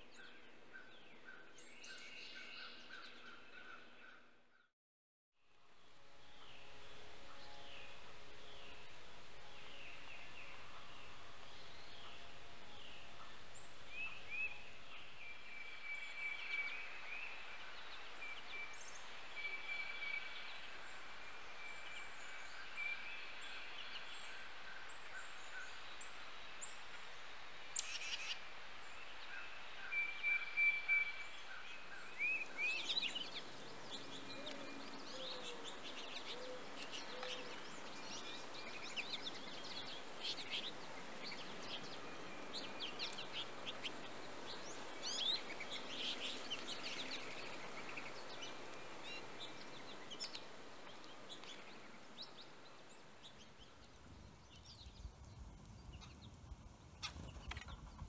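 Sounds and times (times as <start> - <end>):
steady outdoor hiss: 0.0 - 4.6, 5.4 - 58.0
songbirds chirping: 0.0 - 4.7, 5.5 - 58.0.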